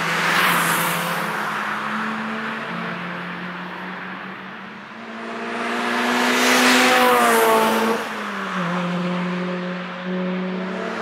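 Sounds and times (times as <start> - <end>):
car passing at speed: 0.0 - 11.0.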